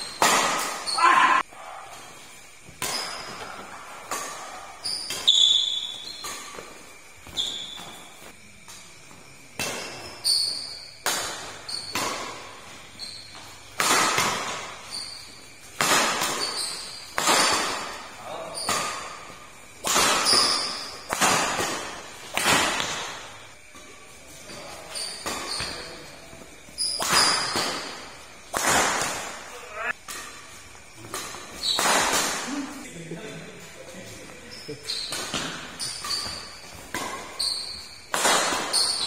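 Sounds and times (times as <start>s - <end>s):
rackets hitting shuttlecock: 0.0s - 1.4s, 2.6s - 8.9s, 9.5s - 32.8s, 34.8s - 39.0s.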